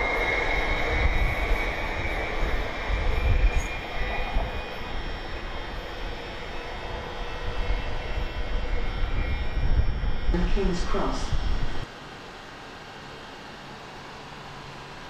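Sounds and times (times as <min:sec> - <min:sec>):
train running rumble with whine: 0:00.0 - 0:15.0.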